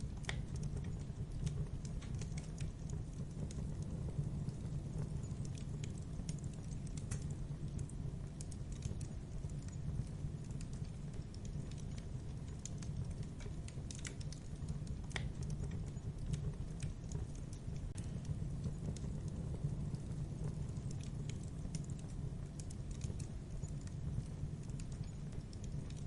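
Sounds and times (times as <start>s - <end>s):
burning wood crackling and popping: 0.0s - 26.0s
fire roaring: 0.0s - 26.0s.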